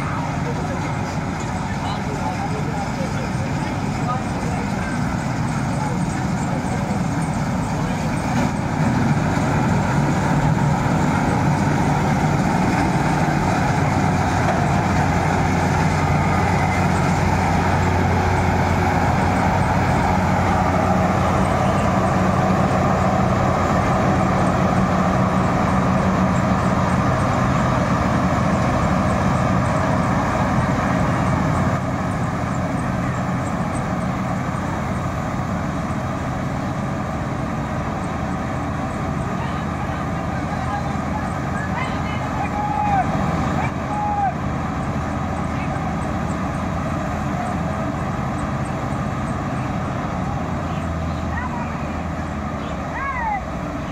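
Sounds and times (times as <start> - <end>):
combine harvester droning: 0.0 - 53.9.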